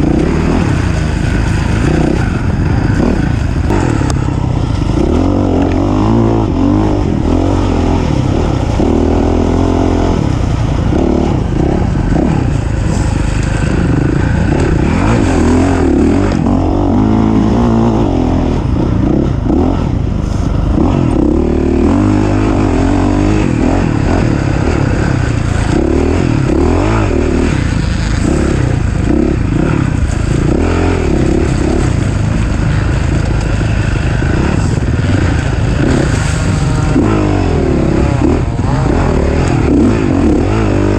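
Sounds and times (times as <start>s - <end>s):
racing engine revving: 0.0s - 40.9s.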